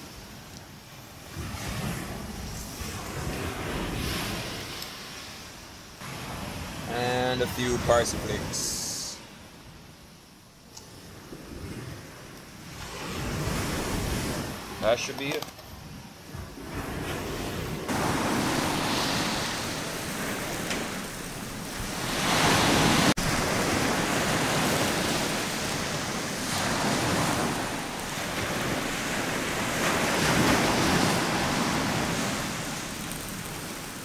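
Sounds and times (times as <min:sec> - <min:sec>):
ocean surf breaking: 0:00.0 - 0:09.6, 0:10.9 - 0:34.0.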